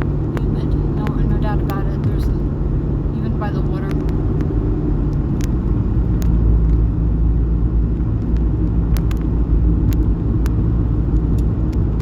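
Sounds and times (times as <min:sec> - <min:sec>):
car driving from inside cabin: 0:00.0 - 0:12.0.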